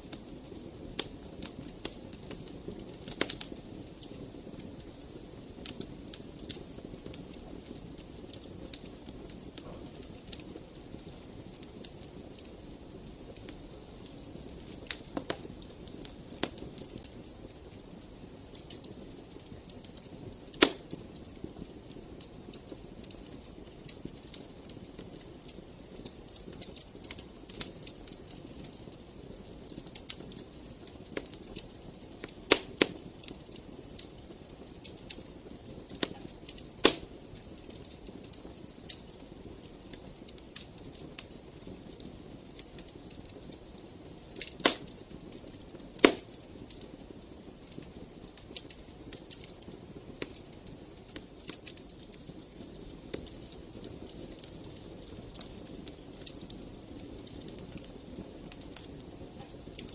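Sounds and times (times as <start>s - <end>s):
loud fire pops: 0.0s - 59.9s
wood fire crackling: 0.0s - 59.9s.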